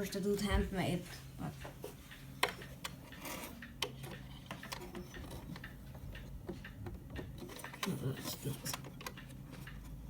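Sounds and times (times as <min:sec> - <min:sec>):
clock movement clicks and ticks: 0:01.6 - 0:10.0.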